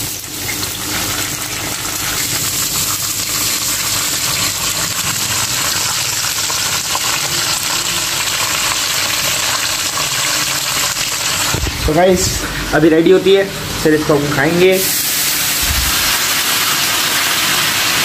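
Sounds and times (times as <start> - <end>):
fries frying in oil: 0.0 - 18.0.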